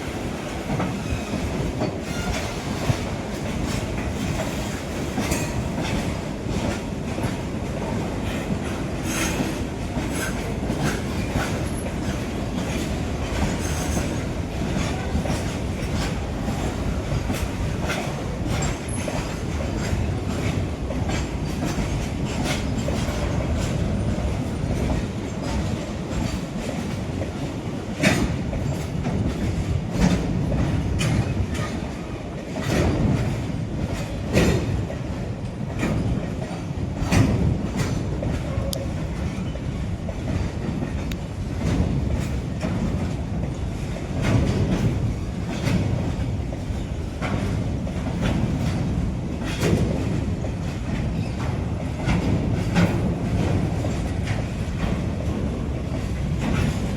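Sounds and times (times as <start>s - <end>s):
train wheels rumbling on rail: 0.0s - 56.9s
wheels clacking over rail joints: 0.1s - 56.9s.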